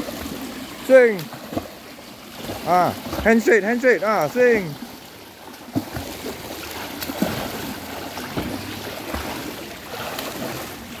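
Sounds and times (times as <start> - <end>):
swimmer splashing water: 0.0 - 11.0.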